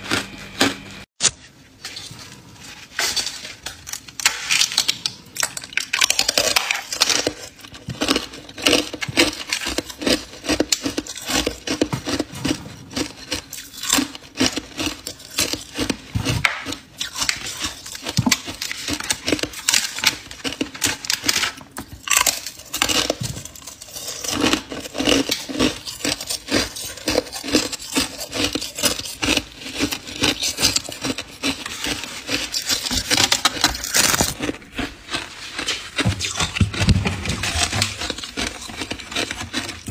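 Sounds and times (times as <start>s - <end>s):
ice crunching while chewed: 0.0s - 1.1s, 3.8s - 39.9s.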